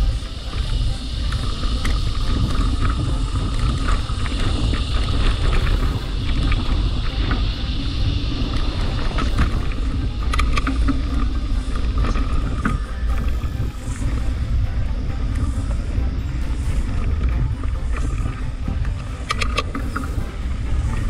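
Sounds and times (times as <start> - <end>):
bike clicks and rattles: 0.0 - 21.0
tyres rumbling on dirt: 0.0 - 21.0
wind buffeting microphone: 0.0 - 21.0.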